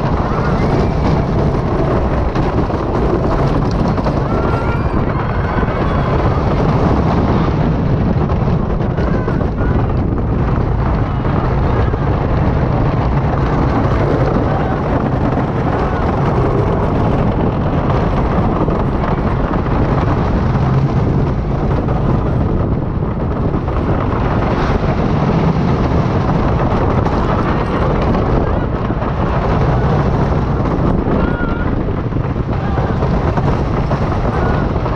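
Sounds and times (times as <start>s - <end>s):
roller coaster wheels rumbling: 0.0s - 34.9s
wind buffeting microphone: 0.0s - 34.9s.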